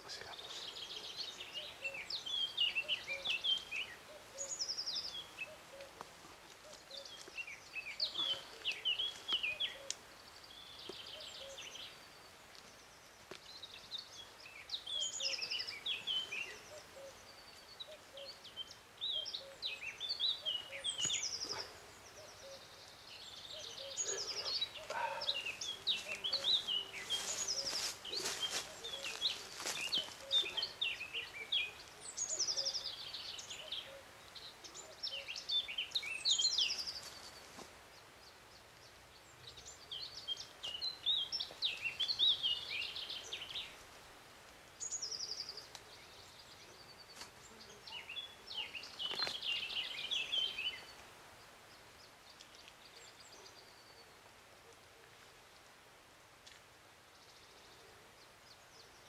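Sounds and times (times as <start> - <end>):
songbird chirping and trilling: 0.0 - 43.8, 44.8 - 54.2.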